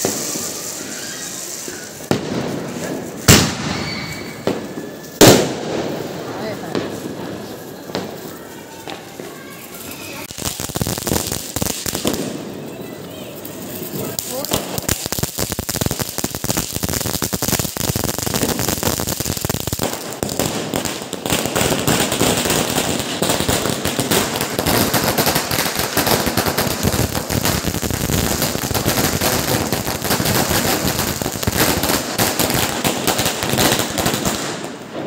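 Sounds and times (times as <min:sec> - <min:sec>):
firecrackers banging: 0:00.0 - 0:35.0.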